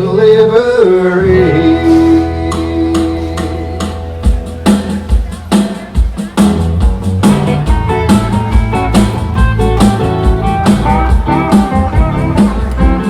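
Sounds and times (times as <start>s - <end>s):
bass: 0.0s - 13.0s
guitar notes: 0.0s - 13.0s
live band instrumental: 0.0s - 13.0s
steady drum beat: 1.4s - 13.0s.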